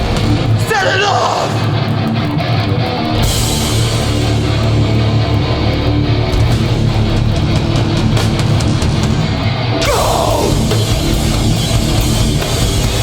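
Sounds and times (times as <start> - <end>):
hardcore band playing: 0.0 - 13.0.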